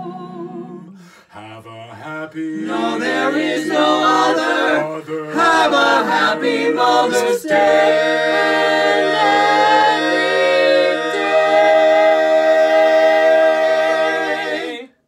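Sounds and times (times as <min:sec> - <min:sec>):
a cappella group singing chord: 0:00.0 - 0:15.0.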